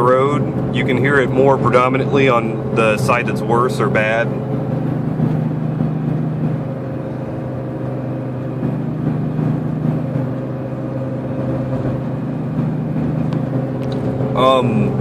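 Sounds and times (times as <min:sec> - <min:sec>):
road and engine noise: 0:00.0 - 0:15.0
wheel bearing humming drone: 0:00.0 - 0:15.0.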